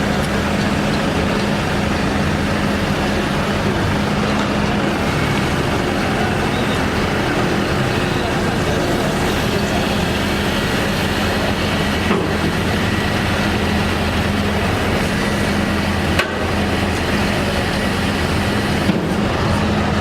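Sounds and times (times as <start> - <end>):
street traffic engine hum: 0.0 - 20.0.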